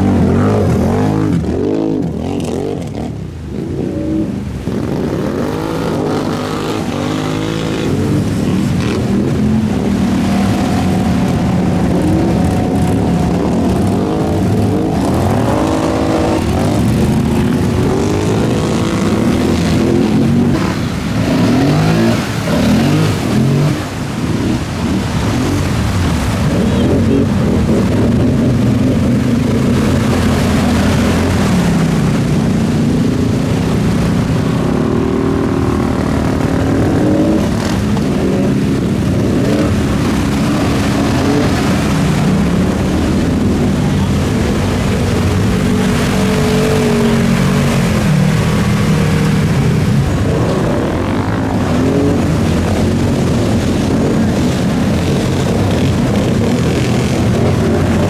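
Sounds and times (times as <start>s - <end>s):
off-road vehicle engines revving: 0.0s - 58.0s.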